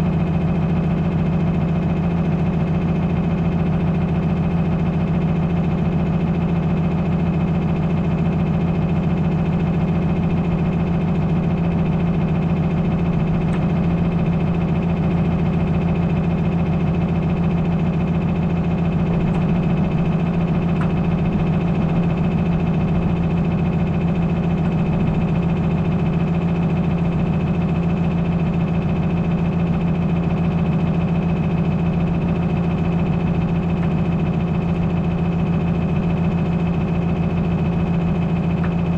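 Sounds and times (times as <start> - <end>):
farm vehicle engine droning: 0.0 - 38.9.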